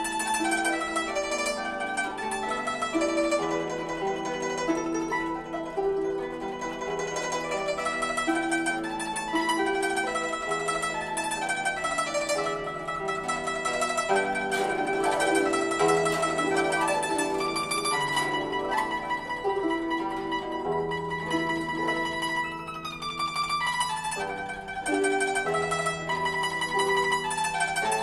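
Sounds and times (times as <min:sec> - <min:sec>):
plucked zither melody: 0:00.0 - 0:28.0.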